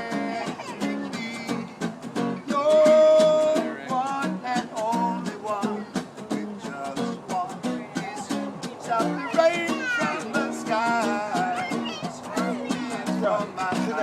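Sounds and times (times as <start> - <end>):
man singing: 0.0 - 14.0
strummed acoustic guitar: 0.0 - 14.0.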